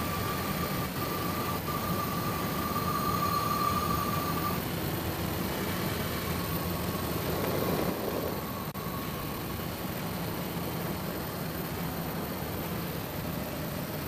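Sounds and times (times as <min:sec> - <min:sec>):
engine-like drone: 0:00.0 - 0:14.0
thin high whine: 0:00.0 - 0:14.0.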